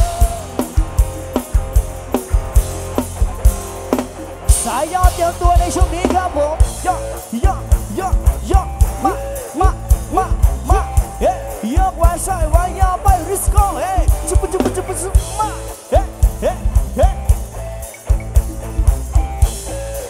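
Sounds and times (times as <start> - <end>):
heavy kick drum and bass: 0.0 - 20.0
sliding melodic lead: 0.0 - 20.0.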